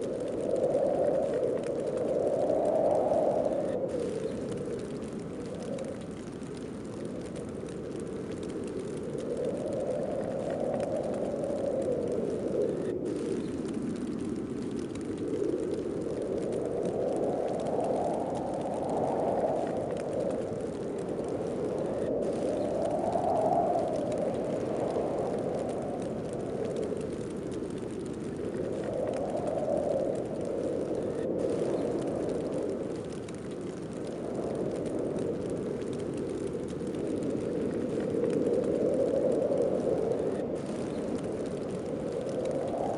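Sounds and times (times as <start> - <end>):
gusting snowstorm wind: 0.0 - 42.9.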